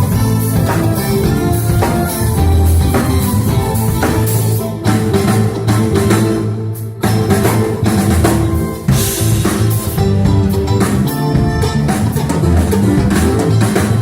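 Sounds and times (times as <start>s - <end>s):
bass notes: 0.0s - 14.0s
guitar: 0.0s - 14.0s.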